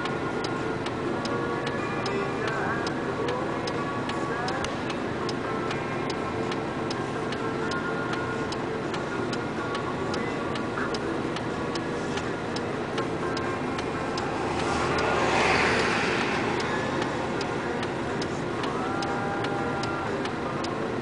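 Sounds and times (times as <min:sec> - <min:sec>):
engine idling: 0:00.0 - 0:21.0
passing traffic rushing: 0:00.0 - 0:21.0
turn signal ticking: 0:00.0 - 0:21.0.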